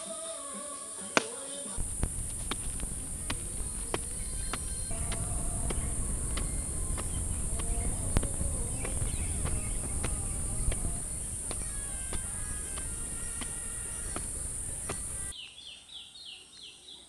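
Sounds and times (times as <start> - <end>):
insects droning: 0.4 - 15.3.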